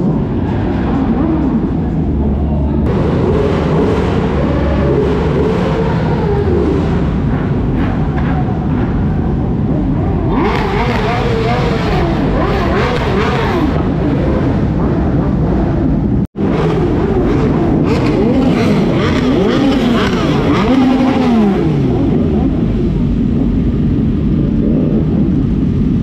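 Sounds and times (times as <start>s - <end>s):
motorcycle engines idling and revving: 0.0s - 26.0s.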